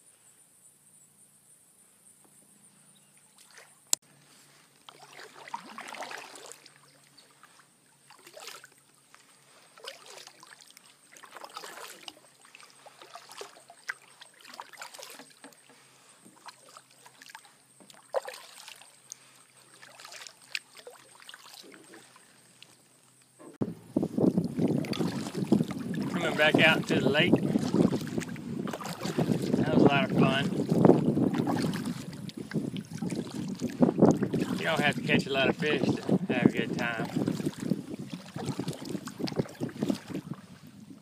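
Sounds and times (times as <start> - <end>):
paddle strokes splashing in water: 3.3 - 41.0.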